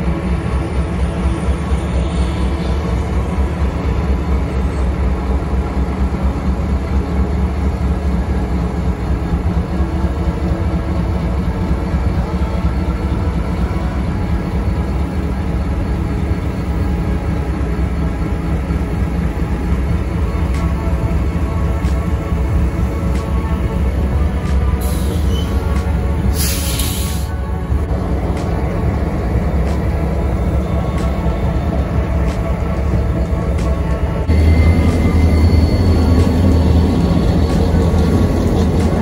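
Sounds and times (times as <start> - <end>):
freight train rumbling past: 0.0 - 39.0.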